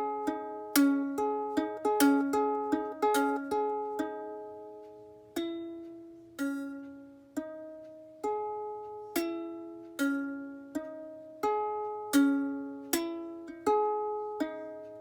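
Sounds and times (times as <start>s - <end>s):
ukulele plucked: 0.0s - 15.0s.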